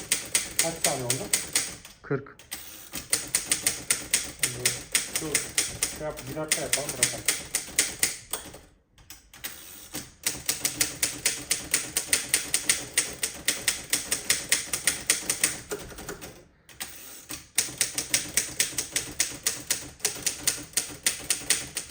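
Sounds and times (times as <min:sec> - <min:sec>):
manual typewriter typing: 0:00.0 - 0:21.9.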